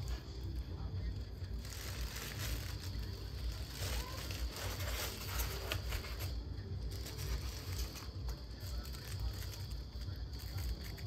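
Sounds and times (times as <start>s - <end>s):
plastic bags crinkling: 0.0s - 11.0s
steady low hum: 0.0s - 11.0s.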